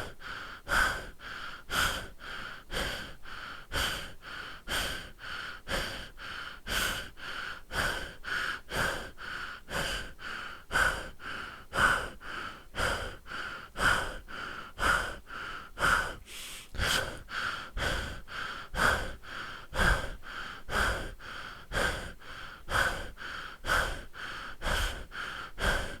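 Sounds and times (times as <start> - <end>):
person breathing heavily: 0.0 - 26.0.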